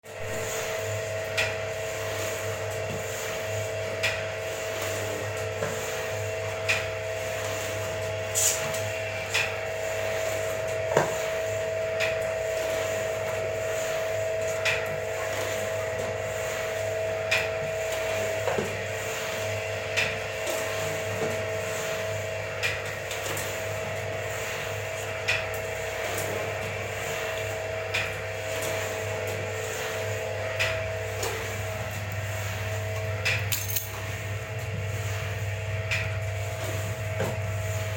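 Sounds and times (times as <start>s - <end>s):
machine motor humming and whining: 0.1s - 37.9s.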